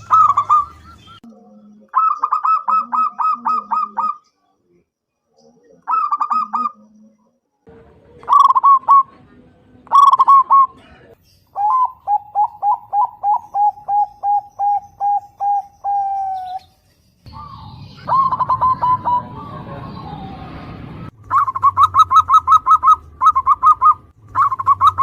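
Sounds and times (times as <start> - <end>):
dove cooing: 0.0 - 4.2, 5.5 - 7.1, 7.9 - 16.7, 17.3 - 25.0.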